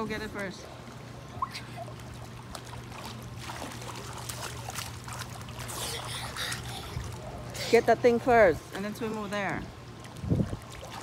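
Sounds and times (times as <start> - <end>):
low steady hum: 0.0 - 11.0
pool water splashing: 0.0 - 11.0.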